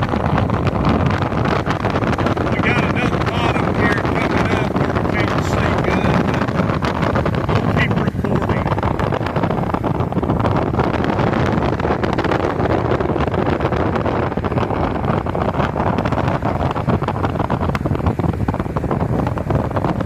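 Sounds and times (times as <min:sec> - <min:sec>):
moving vehicle noise: 0:00.0 - 0:20.0
wind rushing over microphone: 0:00.0 - 0:20.0.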